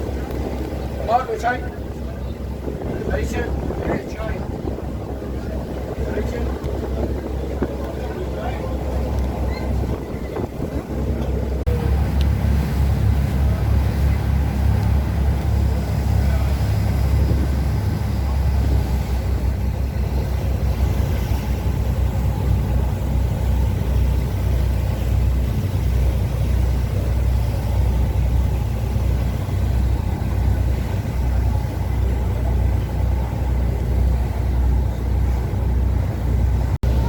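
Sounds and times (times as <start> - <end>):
strong wind buffeting microphone: 0.0 - 37.0.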